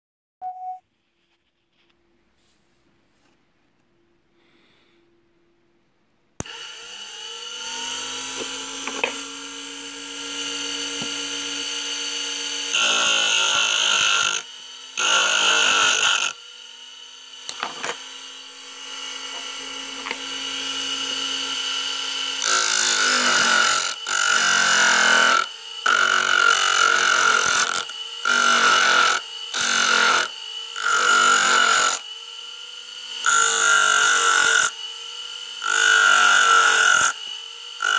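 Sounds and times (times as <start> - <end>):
lathe tool grinding: 6.4 - 37.9
motor whining: 6.4 - 37.9.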